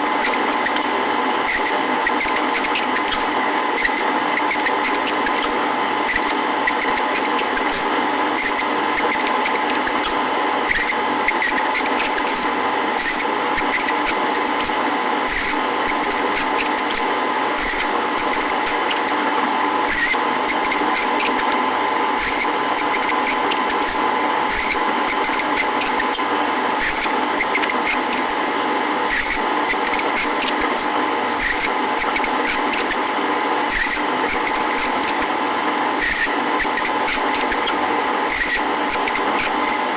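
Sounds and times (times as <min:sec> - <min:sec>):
metal lathe humming: 0:00.0 - 0:39.9.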